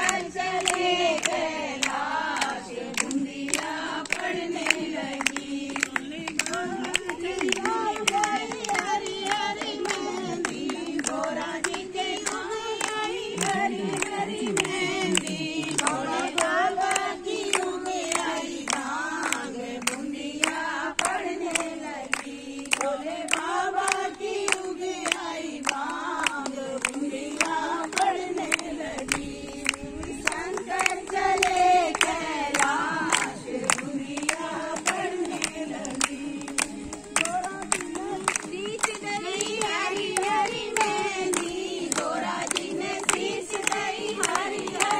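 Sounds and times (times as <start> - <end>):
hands clapping in time: 0.0 - 44.9
women singing in unison: 0.0 - 44.9.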